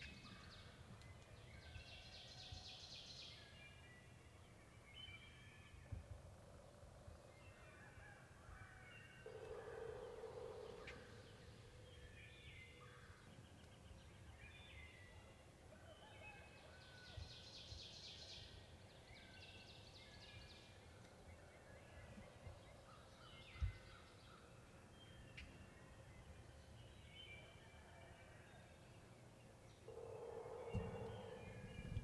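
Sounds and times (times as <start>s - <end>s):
songbirds singing: 0.0s - 32.0s.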